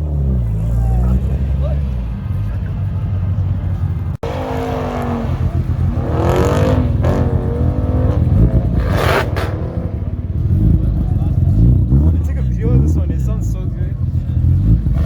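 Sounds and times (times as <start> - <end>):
car engine revving: 0.0 - 15.0
low exhaust rumble: 0.0 - 15.0.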